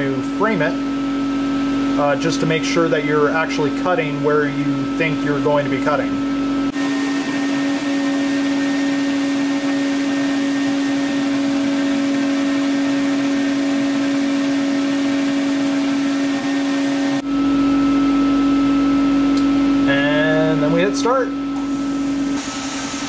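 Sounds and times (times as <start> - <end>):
laser cutter motor drone: 0.0 - 18.5, 19.2 - 23.0.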